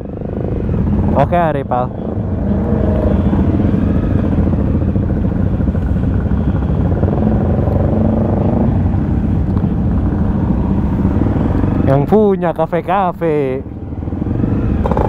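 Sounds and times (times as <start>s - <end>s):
motorcycle engine running: 0.0s - 11.9s, 13.6s - 15.0s
other motorcycle engines: 0.0s - 15.0s.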